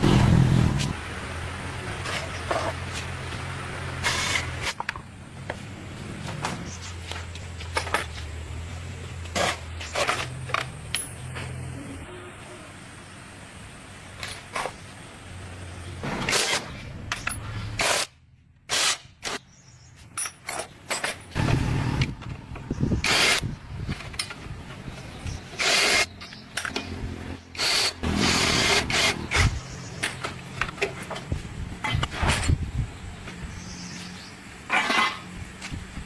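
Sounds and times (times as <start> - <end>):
bursts of tool work: 0.0 - 12.1, 13.4 - 33.4.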